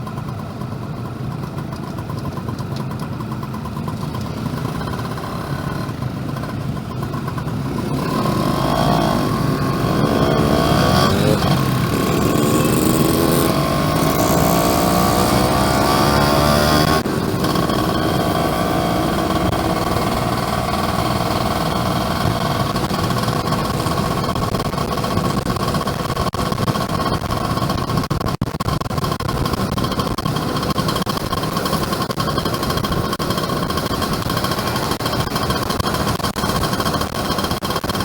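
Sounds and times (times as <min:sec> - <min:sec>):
two-stroke motorcycle engine: 0:00.0 - 0:38.0.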